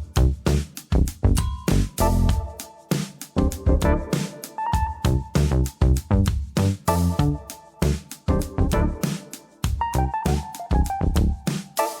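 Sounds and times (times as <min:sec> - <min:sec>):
music with punchy beat and bass: 0:00.0 - 0:12.0.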